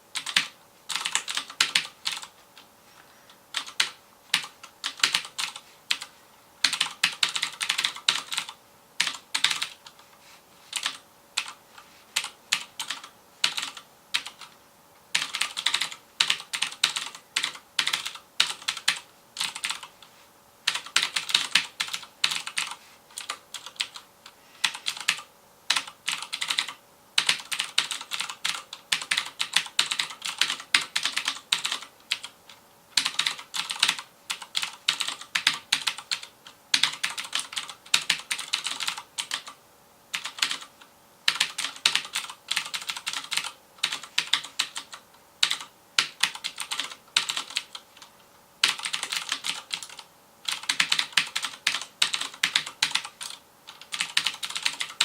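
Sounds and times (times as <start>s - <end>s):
mechanical keyboard typing: 0.2s - 2.7s, 3.5s - 10.0s, 10.7s - 11.6s, 12.2s - 20.0s, 20.6s - 24.0s, 24.6s - 55.0s.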